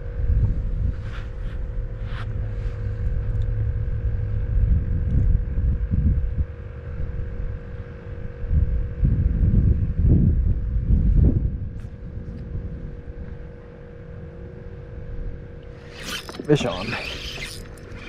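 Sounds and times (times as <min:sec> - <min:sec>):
faint steady hum: 0:00.0 - 0:18.0
wind buffeting microphone: 0:00.0 - 0:18.0.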